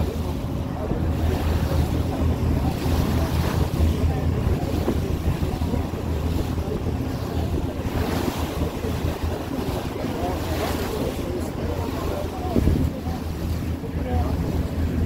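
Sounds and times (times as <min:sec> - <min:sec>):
ferry engine humming: 0:00.0 - 0:15.0
wind buffeting microphone: 0:00.0 - 0:15.0.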